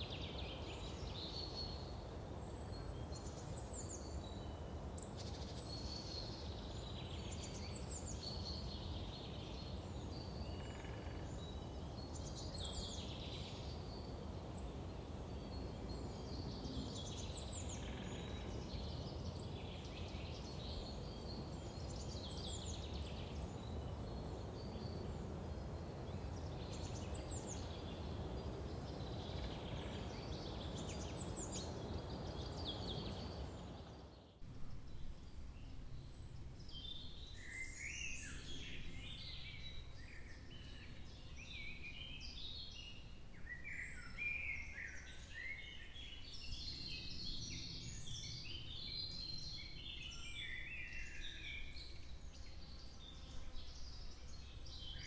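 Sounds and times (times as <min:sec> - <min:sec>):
birds singing: 0:00.0 - 0:55.0.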